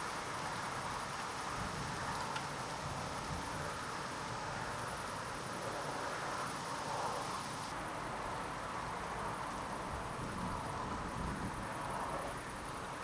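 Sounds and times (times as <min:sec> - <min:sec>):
wind and rain hiss: 0:00.0 - 0:13.0.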